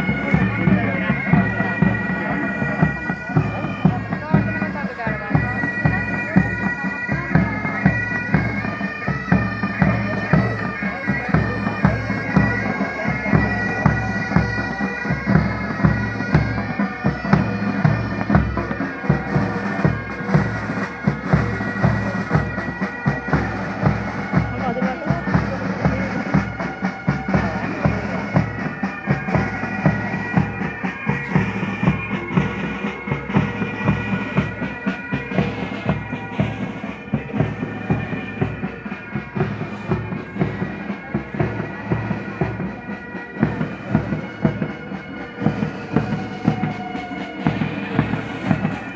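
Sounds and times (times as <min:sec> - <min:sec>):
bagpipes playing a march: 0:00.0 - 0:48.9
regular drumbeat: 0:00.0 - 0:48.9.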